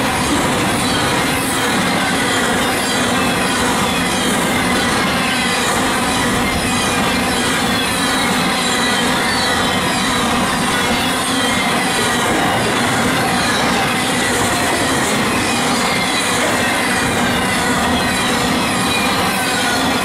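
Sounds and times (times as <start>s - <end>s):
train wheels rolling on rails: 0.0s - 20.0s
wheel squealing: 0.0s - 20.0s.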